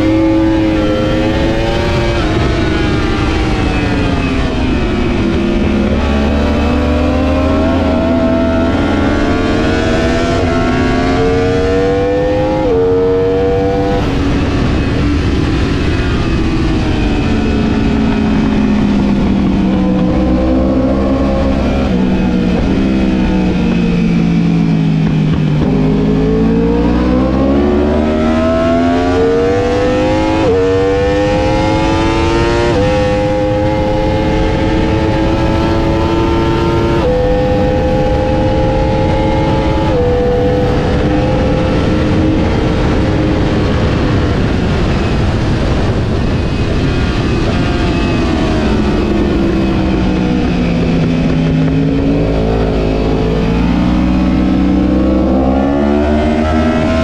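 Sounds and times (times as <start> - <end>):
heavy wind noise: 0.0 - 57.0
motorbike engine at full throttle: 0.0 - 57.0.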